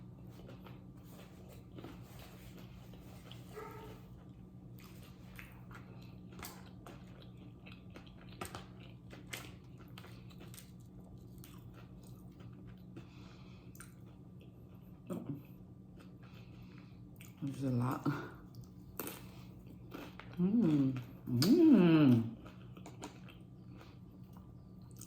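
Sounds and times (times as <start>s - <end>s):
chewing and biting food: 0.0s - 14.9s, 15.8s - 17.4s, 18.5s - 21.5s, 22.2s - 25.0s
low steady hum: 0.0s - 25.0s.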